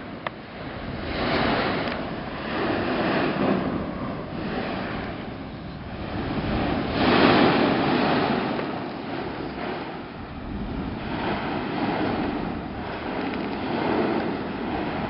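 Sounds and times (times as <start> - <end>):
volcano crater roaring: 0.0 - 15.0
wind buffeting microphone: 0.0 - 15.0.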